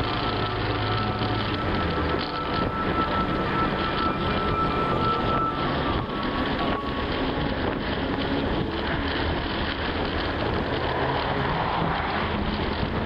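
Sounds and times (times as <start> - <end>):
car engine: 0.0 - 13.0
road and wind noise: 0.0 - 13.0
wind buffeting microphone: 0.0 - 13.0.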